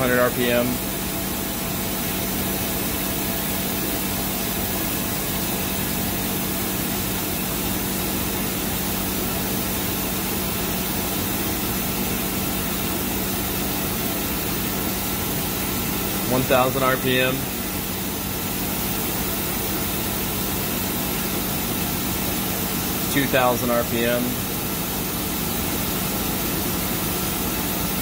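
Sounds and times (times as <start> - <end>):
machine hiss: 0.0 - 28.0.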